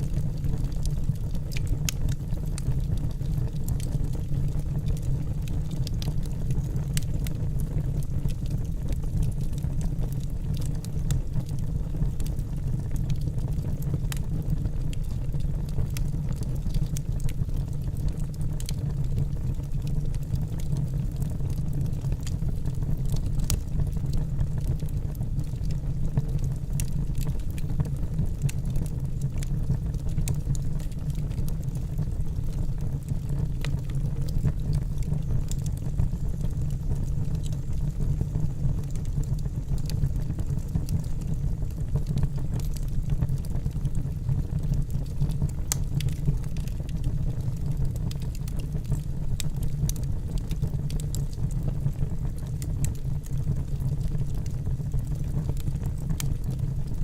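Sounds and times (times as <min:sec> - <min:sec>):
burning logs crackling and popping: 0:00.0 - 0:57.0
fire rumbling: 0:00.0 - 0:57.0.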